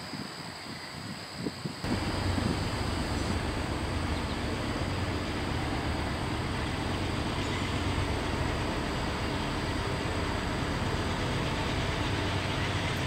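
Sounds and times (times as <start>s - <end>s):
diesel locomotive engine rumble: 1.8s - 13.0s.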